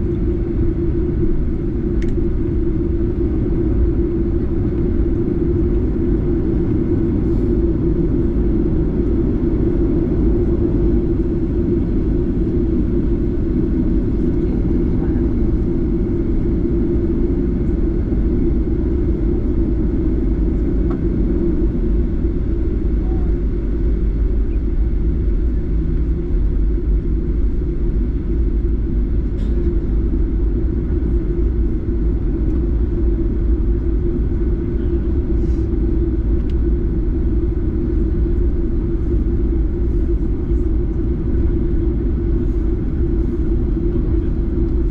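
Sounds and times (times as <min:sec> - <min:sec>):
constant low hum: 0:00.0 - 0:44.9
jet engine and airflow rumble: 0:00.0 - 0:44.9.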